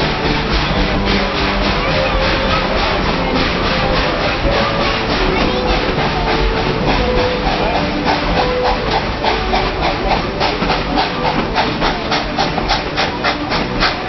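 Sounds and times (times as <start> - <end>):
steam hissing: 0.0 - 14.0
steam locomotive chuffing: 0.0 - 14.0.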